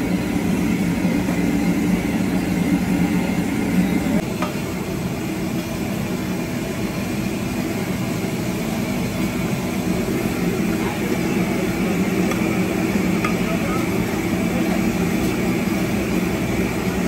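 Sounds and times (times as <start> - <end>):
chicken frying in hot oil: 0.0 - 17.0.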